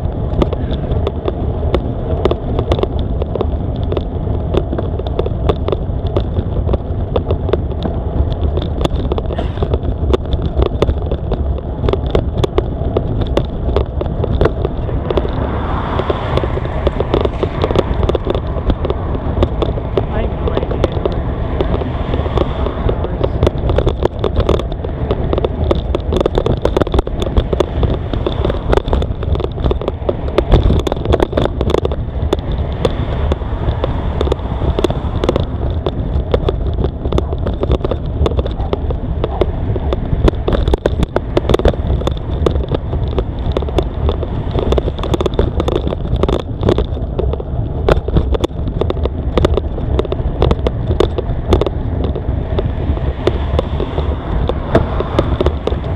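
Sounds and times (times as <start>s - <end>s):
bicycle clicks and rattles: 0.0s - 55.9s
wind buffeting microphone: 0.0s - 55.9s.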